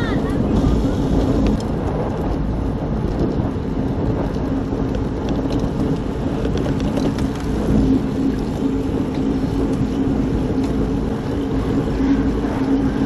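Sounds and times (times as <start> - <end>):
engine running: 0.0 - 13.0
wind rushing over microphone: 0.0 - 13.0.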